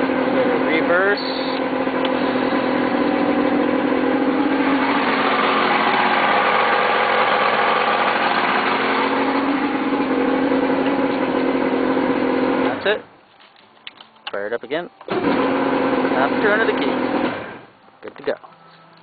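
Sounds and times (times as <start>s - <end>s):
outboard motor running: 0.0s - 13.0s, 15.1s - 17.7s.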